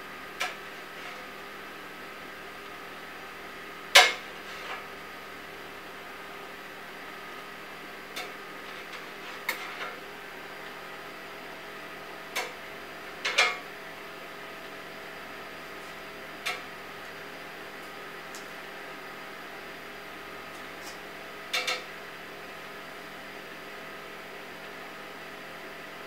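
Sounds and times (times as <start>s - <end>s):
workshop hum: 0.0s - 26.0s.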